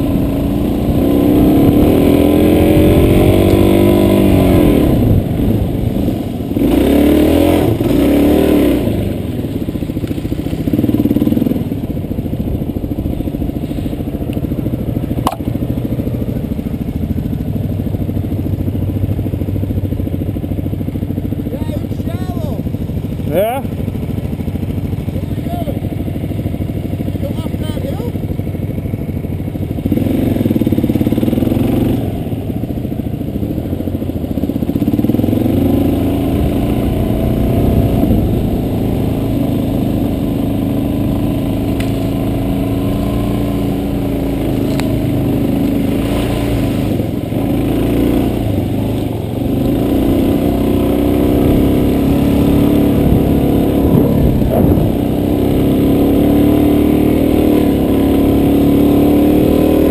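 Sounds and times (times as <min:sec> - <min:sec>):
off-road vehicle engine revving: 0:00.0 - 0:18.5, 0:21.1 - 0:28.5, 0:29.6 - 0:59.9.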